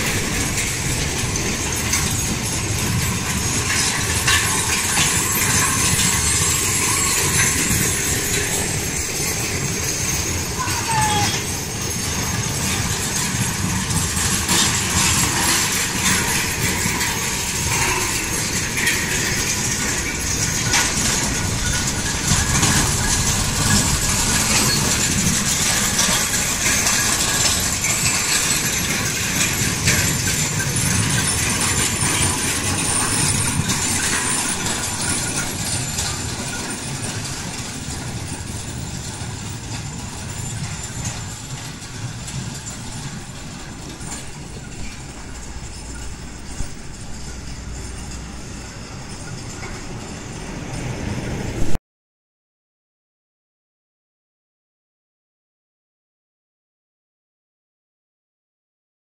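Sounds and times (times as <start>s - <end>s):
cart wheels rumbling and rattling: 0.0s - 51.8s.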